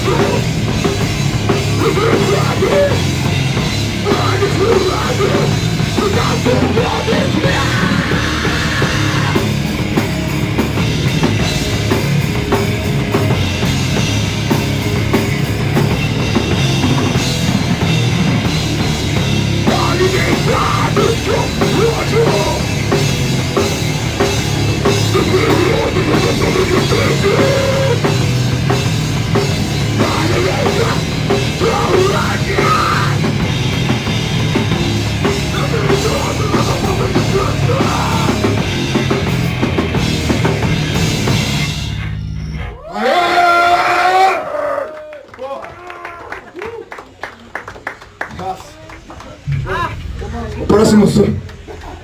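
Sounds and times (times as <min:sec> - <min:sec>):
punk rock band playing live: 0:00.0 - 0:42.6, 0:49.4 - 0:52.0.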